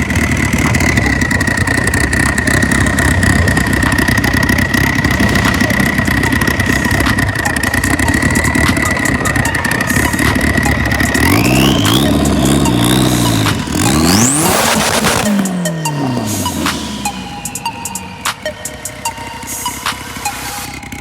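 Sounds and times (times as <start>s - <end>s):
car engine idling: 0.0s - 21.0s
high-pitched whine: 0.0s - 21.0s.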